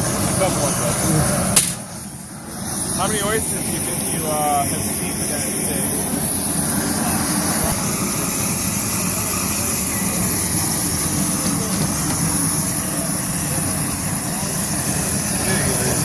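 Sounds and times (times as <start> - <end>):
crowd voices: 0.0 - 16.0
steam roaring and hissing: 0.0 - 16.0.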